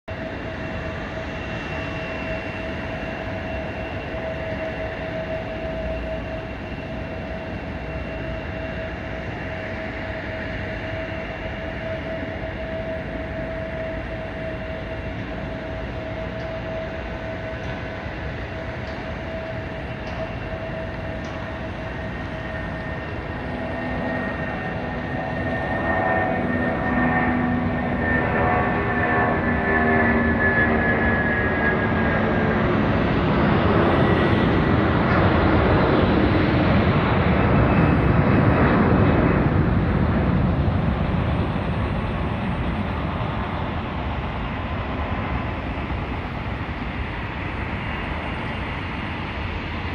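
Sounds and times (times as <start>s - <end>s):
distant jet engines: 0.1s - 49.9s.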